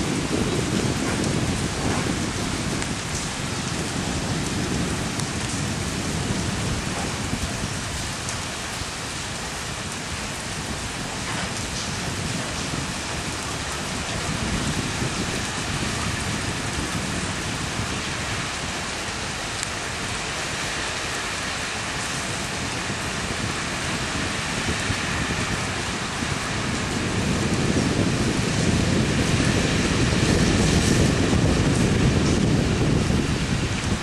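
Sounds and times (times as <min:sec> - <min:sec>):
heavy rain pouring: 0:00.0 - 0:34.0
strong wind: 0:00.0 - 0:34.0.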